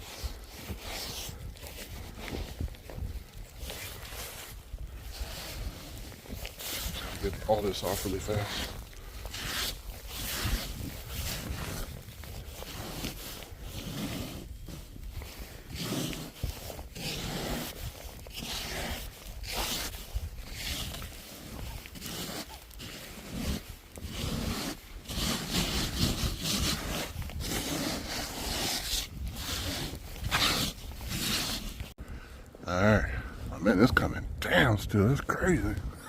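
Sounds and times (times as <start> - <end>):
snow scraper scraping snow: 0.0 - 31.9.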